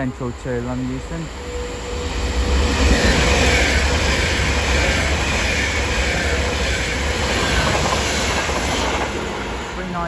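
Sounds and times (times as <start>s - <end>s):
electric train passing at speed: 0.0s - 10.0s.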